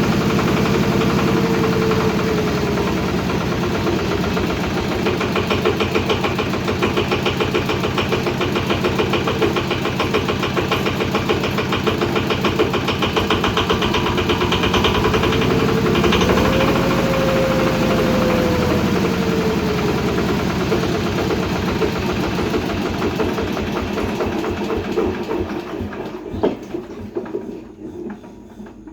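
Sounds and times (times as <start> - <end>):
diesel engine chugging: 0.0 - 27.1.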